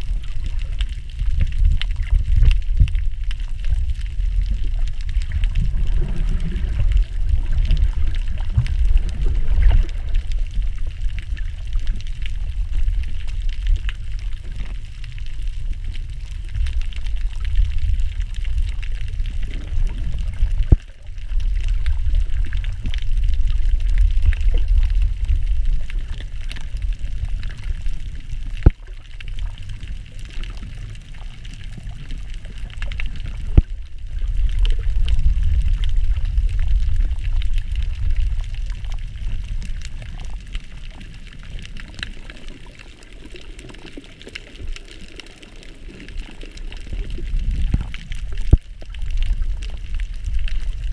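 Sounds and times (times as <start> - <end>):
muffled underwater water rush: 0.0 - 50.9.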